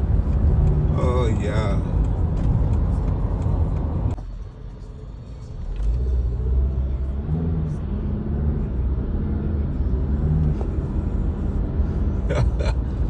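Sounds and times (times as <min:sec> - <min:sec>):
car road rumble and engine hum: 0:00.0 - 0:13.0.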